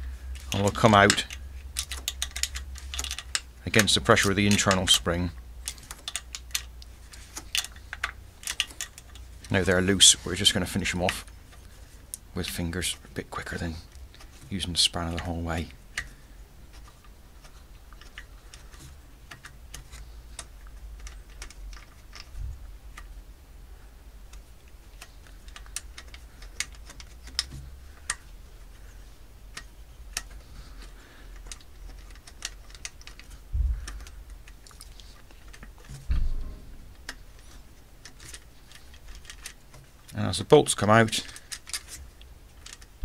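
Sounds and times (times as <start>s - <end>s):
small metallic clicks: 0.3s - 12.6s, 13.5s - 23.2s, 24.3s - 43.0s.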